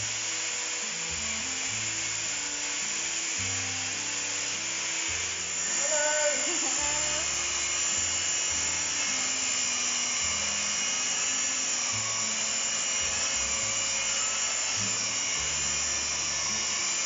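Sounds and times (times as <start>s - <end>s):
drywall sander whirring: 0.0s - 17.0s.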